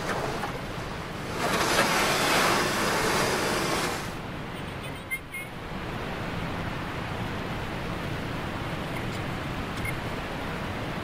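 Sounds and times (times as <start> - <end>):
river water rushing: 0.0 - 4.6, 5.6 - 11.0.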